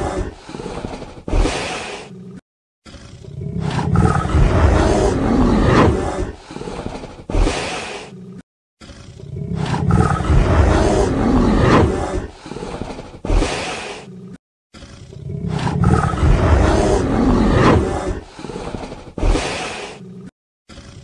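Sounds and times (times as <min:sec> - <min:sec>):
deep animal roar: 0:00.0 - 0:07.1, 0:08.0 - 0:21.0.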